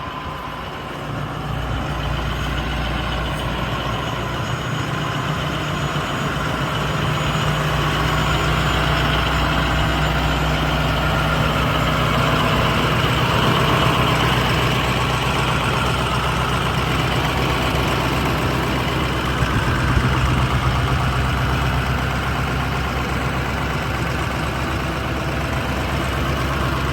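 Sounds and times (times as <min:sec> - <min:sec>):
diesel truck engine running: 0:00.0 - 0:26.9.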